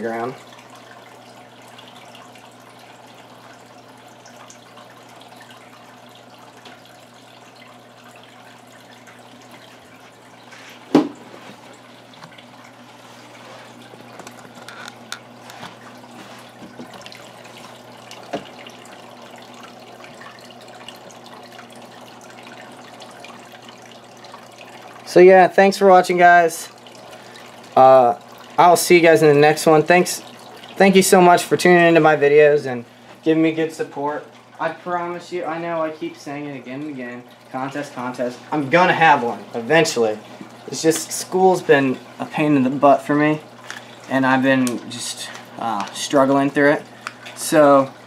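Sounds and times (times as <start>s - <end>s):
aquarium filter water trickling: 0.0s - 48.0s
low steady hum: 0.0s - 48.0s.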